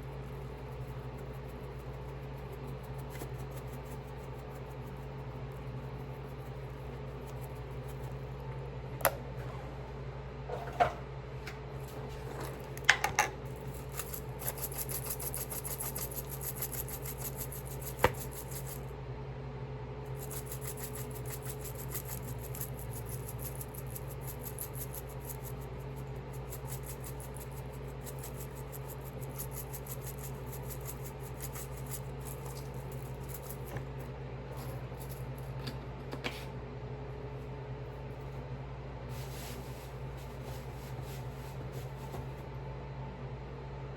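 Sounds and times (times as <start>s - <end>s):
low hum of appliance or fan: 0.0s - 43.9s.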